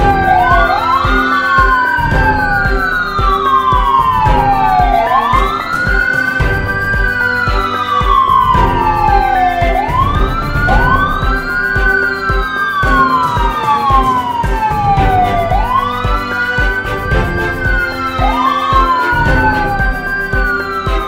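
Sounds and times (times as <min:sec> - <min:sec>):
background music with beat: 0:00.0 - 0:21.0
siren wailing: 0:00.0 - 0:21.0.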